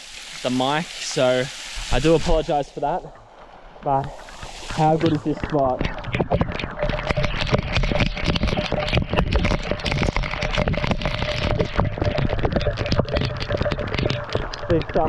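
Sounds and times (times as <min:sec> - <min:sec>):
rushing falling water: 0:00.0 - 0:15.0
water splashing at microphone: 0:00.0 - 0:15.0.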